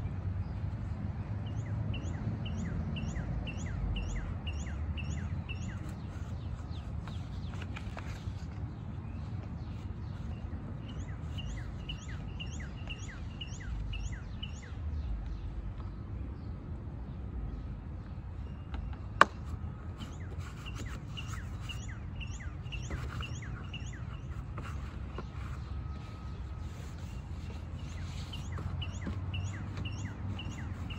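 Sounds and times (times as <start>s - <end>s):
bird chirping: 1.4s - 16.6s, 20.0s - 30.9s.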